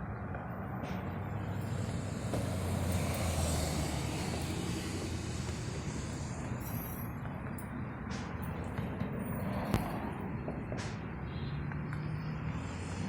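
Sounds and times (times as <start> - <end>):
road tyre noise: 0.0 - 13.0
vehicle engine running: 0.3 - 10.9.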